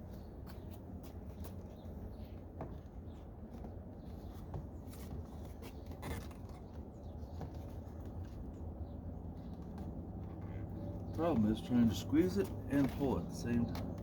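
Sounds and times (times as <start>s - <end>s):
handling noises: 0.0s - 14.0s.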